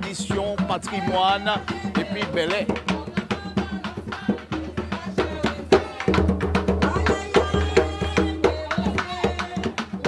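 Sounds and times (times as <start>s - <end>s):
hand drum: 0.0s - 10.0s.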